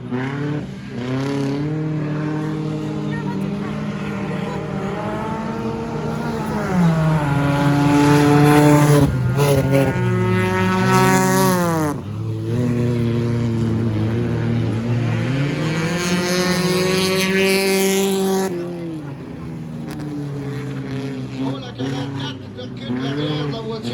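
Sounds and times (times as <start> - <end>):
stock car engines racing: 0.0 - 23.9.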